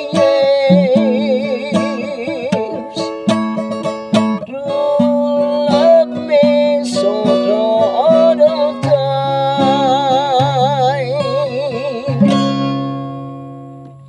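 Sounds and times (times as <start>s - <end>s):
man singing with vibrato: 0.0s - 13.3s
acoustic guitar strumming: 0.0s - 14.0s.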